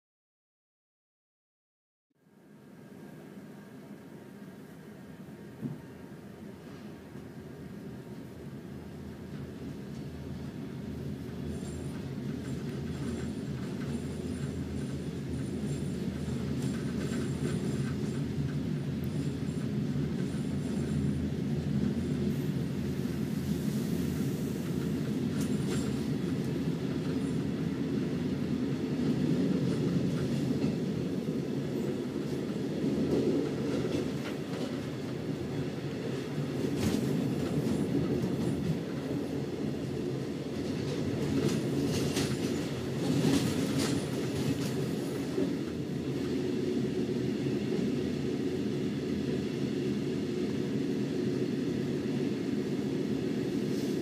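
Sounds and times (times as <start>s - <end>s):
wheels rumbling on rail: 2.2s - 54.0s.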